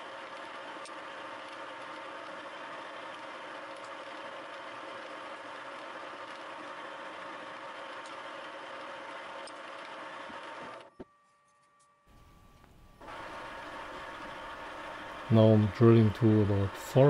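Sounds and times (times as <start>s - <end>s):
milling machine hum and whine: 0.0s - 17.0s.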